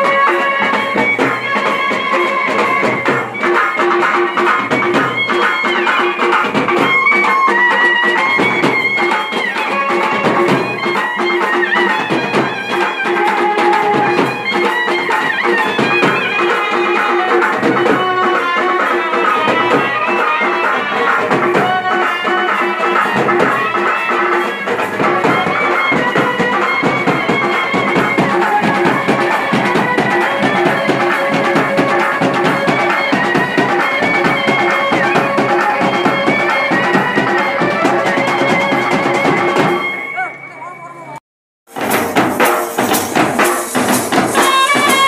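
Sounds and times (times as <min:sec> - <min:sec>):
drums beating: 0:00.0 - 0:40.4, 0:41.7 - 0:45.0
reed wind instrument melody: 0:00.0 - 0:41.2, 0:41.9 - 0:45.0.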